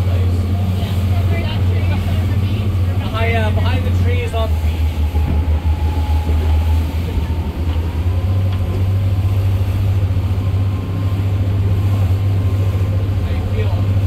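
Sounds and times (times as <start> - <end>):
motorboat engine droning: 0.0 - 14.0.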